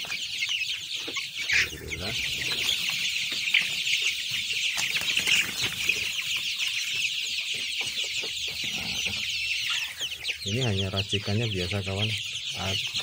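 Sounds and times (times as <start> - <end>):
chicks cheeping in chorus: 0.0 - 13.0.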